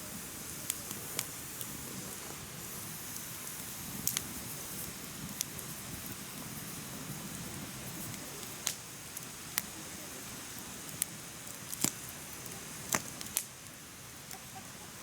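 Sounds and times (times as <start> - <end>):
fire hissing: 0.0 - 15.0
firewood crackles and pops: 0.0 - 15.0.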